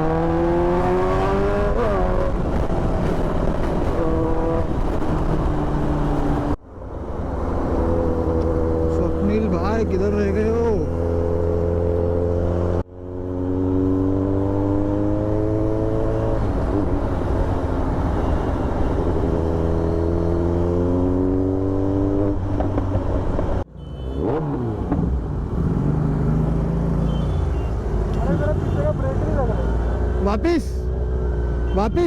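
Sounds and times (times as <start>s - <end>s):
motorcycle engine revving: 0.0s - 6.6s, 7.3s - 32.0s.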